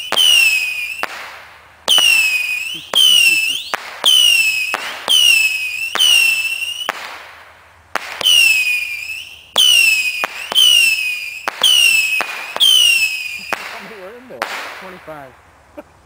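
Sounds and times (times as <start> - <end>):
whistling fireworks: 0.0 - 15.3
firework cracks: 0.0 - 15.9.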